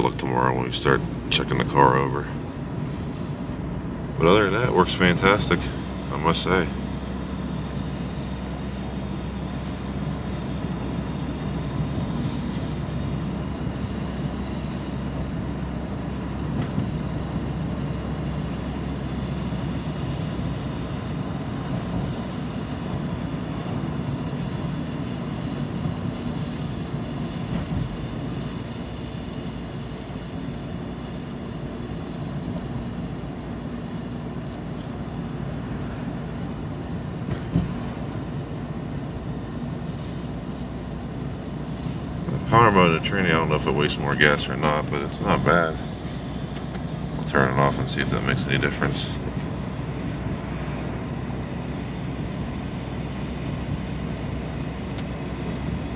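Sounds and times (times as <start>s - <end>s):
car engine running: 0.0s - 55.9s
road noise: 0.0s - 55.9s.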